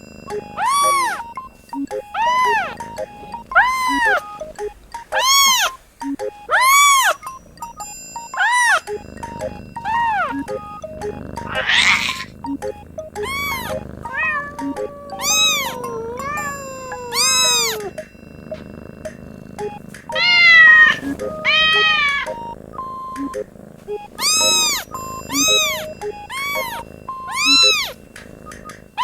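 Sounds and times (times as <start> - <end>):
kitten meowing: 0.0 - 5.8, 6.4 - 29.0
light plinking music: 0.0 - 29.0.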